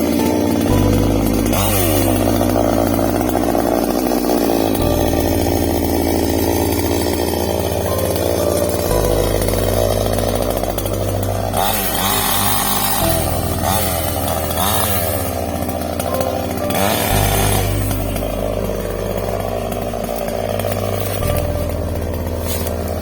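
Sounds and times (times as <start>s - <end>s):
chainsaw running at high revs: 0.0s - 23.0s.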